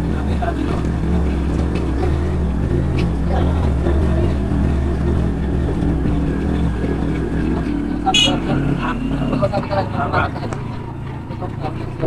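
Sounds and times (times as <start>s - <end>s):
motor engine droning: 0.0s - 12.0s.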